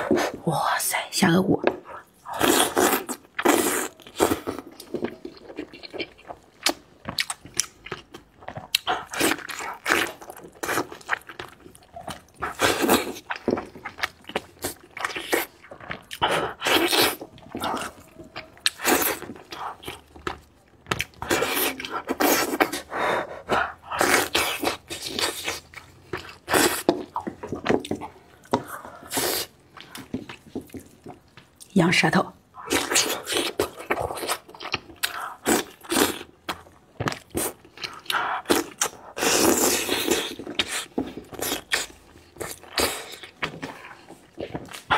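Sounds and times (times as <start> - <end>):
person chewing meat: 1.8 - 31.7, 32.6 - 44.9.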